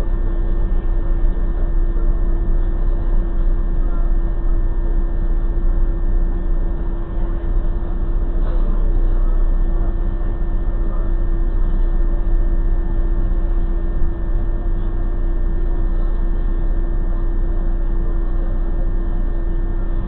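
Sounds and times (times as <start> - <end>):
constant steady tone: 0.0 - 20.0
vehicle idling: 0.0 - 20.0.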